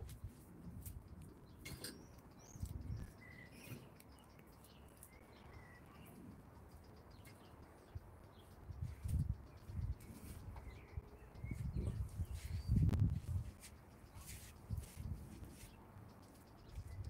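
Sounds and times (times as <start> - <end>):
faint bird chirps: 0.2 - 17.0.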